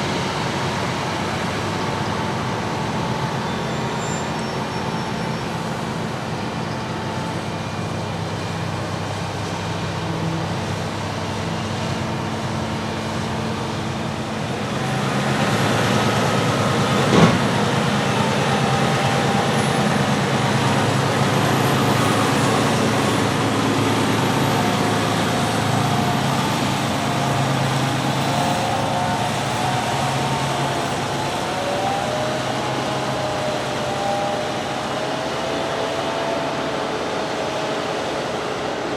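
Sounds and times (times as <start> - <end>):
diesel farm machinery drone: 0.0 - 38.9.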